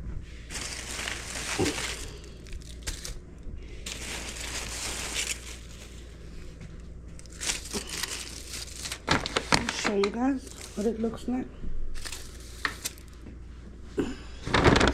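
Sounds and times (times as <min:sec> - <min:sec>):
food wrapping crinkling: 0:00.4 - 0:11.2, 0:12.0 - 0:13.2.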